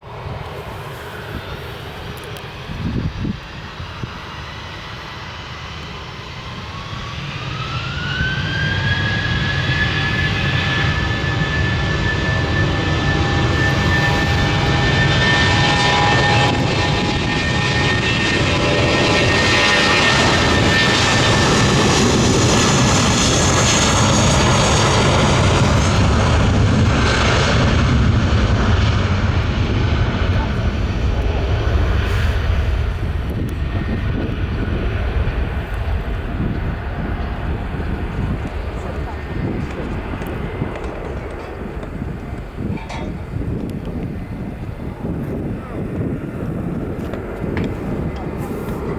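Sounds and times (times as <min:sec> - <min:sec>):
engine whine: 0:00.0 - 0:48.9
jet engines spooling up: 0:00.1 - 0:48.9.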